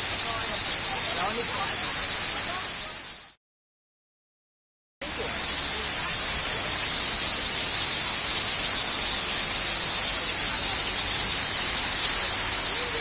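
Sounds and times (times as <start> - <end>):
waterfall rushing: 0.0 - 3.4, 5.0 - 13.0.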